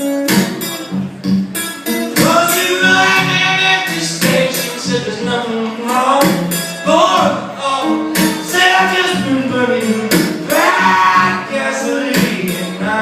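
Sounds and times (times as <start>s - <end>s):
strummed acoustic guitar: 0.0s - 13.0s
man singing: 2.1s - 13.0s.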